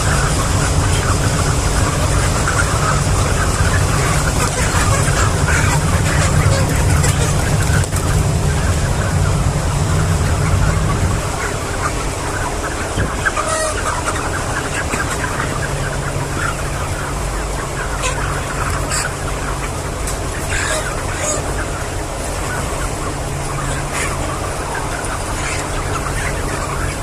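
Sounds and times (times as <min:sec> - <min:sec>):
chickens clucking and peeping: 0:00.0 - 0:27.0
steady low hum: 0:00.0 - 0:27.0.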